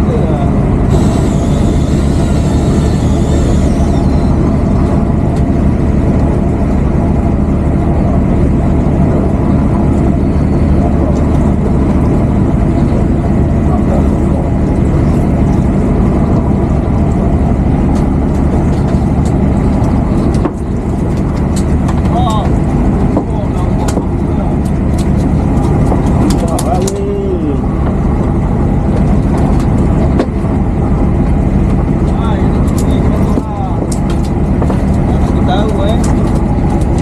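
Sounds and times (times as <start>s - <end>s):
boat engine droning: 0.0s - 37.0s.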